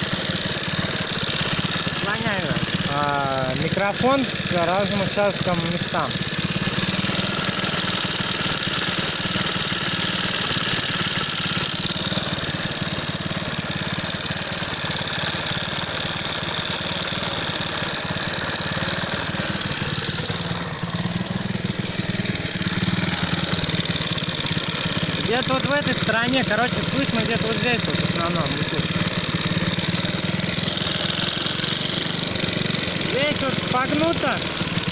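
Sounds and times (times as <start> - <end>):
moped engine with metallic knock: 0.0 - 34.9.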